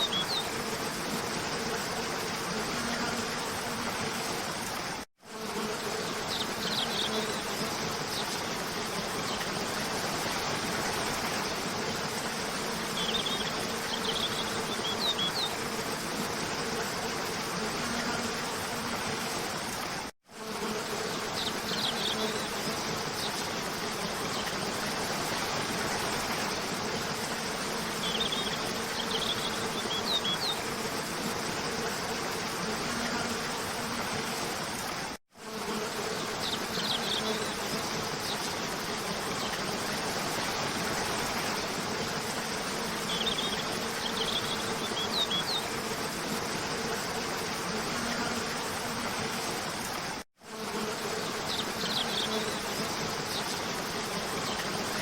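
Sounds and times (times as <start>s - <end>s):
insect-like buzzing drone: 0.0s - 55.0s.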